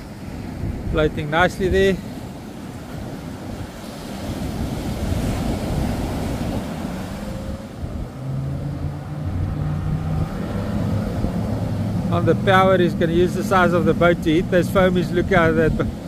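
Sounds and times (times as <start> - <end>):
surf breaking: 0.0 - 16.0
wind buffeting microphone: 0.0 - 16.0
low engine hum: 1.7 - 16.0.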